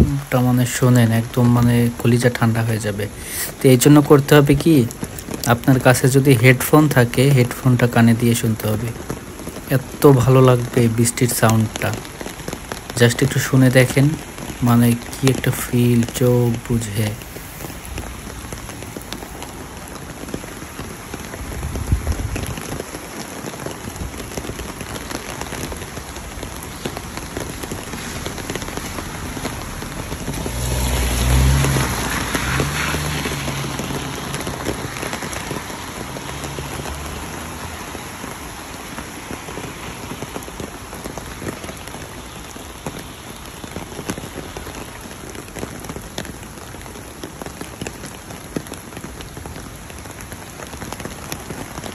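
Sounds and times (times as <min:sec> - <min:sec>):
rain pattering: 0:00.0 - 0:51.9.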